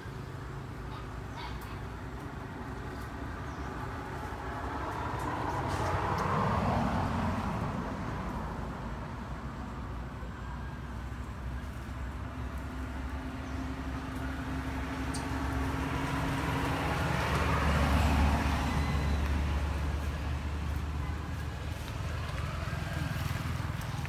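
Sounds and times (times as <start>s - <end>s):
road noise: 0.0s - 24.0s
vehicle engine rumble passing: 0.0s - 24.0s.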